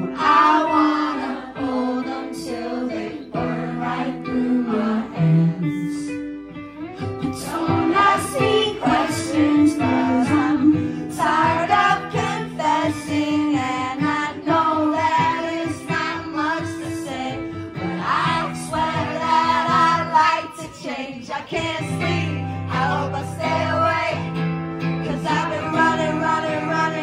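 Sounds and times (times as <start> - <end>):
woman singing into microphone: 0.0 - 6.2, 7.0 - 27.0
amplified guitar: 0.0 - 27.0.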